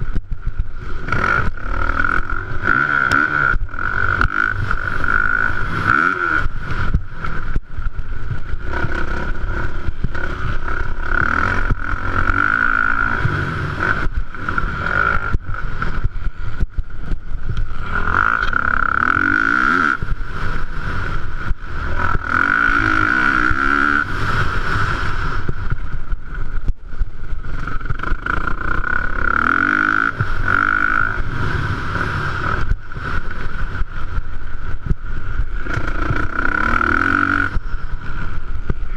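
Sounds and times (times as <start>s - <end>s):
motocross bikes revving: 0.0s - 38.9s.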